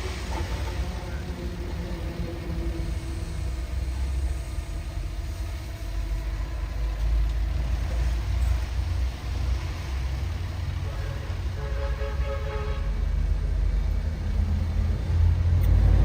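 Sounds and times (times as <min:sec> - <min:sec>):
heavy machinery diesel engine rumble: 0:00.0 - 0:16.0.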